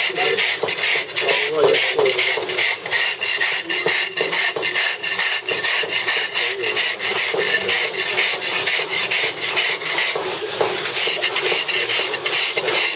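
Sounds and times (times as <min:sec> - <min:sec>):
steel drag scraping stone: 0:00.0 - 0:12.9.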